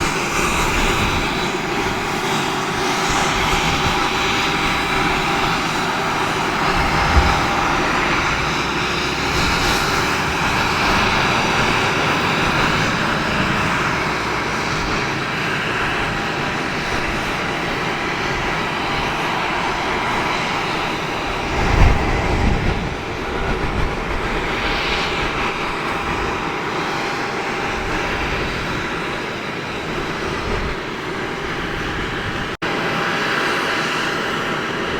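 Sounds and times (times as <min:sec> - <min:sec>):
turboprop engine running: 0:00.0 - 0:34.9.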